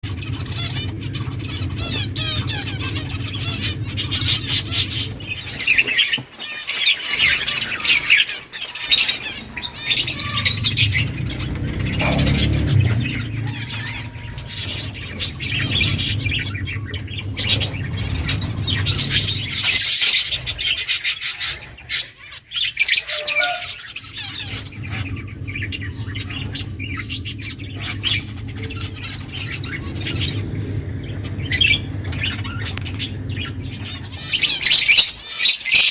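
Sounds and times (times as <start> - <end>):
low steady hum: 0.0 - 6.1, 8.7 - 22.8, 23.6 - 35.3
finches chirping: 0.0 - 35.9.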